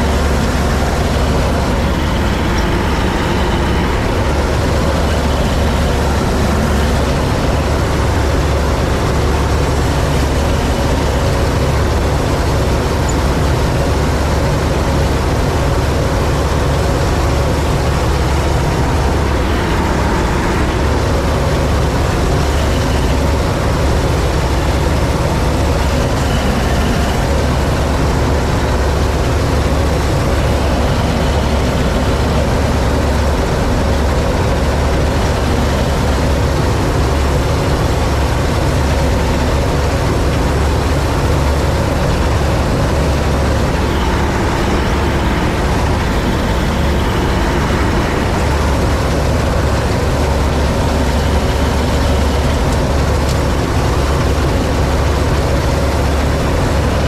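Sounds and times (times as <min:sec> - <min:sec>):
combine harvester drone: 0:00.0 - 0:57.0.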